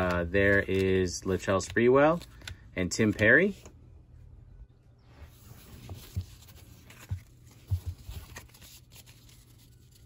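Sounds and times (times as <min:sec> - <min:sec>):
cards rustling: 0:00.0 - 0:03.7, 0:05.3 - 0:10.0.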